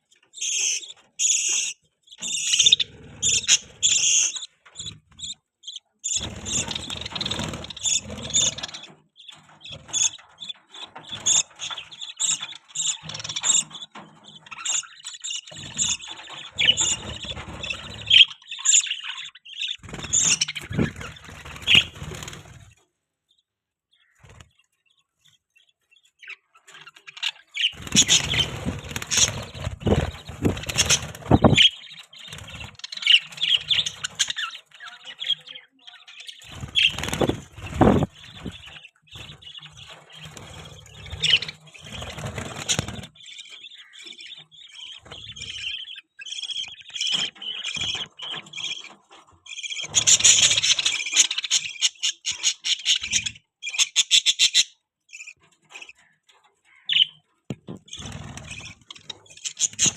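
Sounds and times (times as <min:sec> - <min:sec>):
budgies chirping and chattering: 0:00.0 - 0:59.9.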